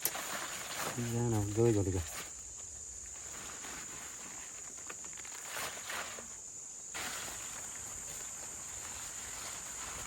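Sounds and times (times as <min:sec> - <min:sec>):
broad hiss: 0:00.0 - 0:10.0
insects chirring: 0:00.0 - 0:10.0
soft rustles: 0:00.0 - 0:10.0.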